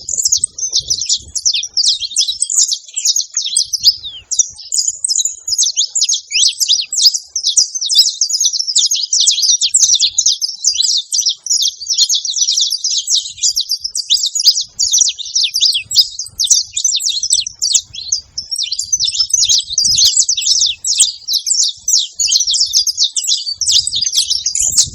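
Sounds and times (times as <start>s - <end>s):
finches chirping: 0.0s - 24.9s.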